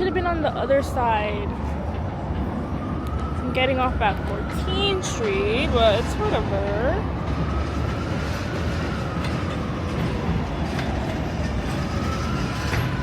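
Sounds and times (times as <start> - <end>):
wheels rumbling on track: 0.0 - 13.0.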